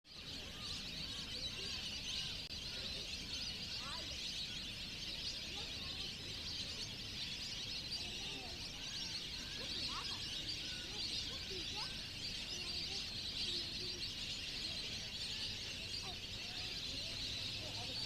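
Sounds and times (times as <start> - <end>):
flock of waterbirds calling: 0.1 - 18.0.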